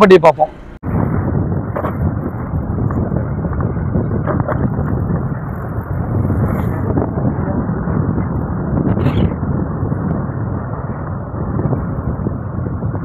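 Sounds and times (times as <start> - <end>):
moving vehicle road noise: 0.0 - 13.0
wind rumble on microphone: 0.8 - 13.0.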